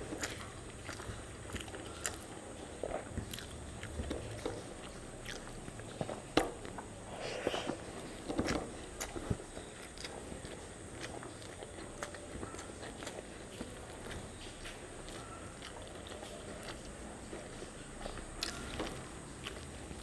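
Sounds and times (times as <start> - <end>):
chewing and lip smacks: 0.0 - 20.0.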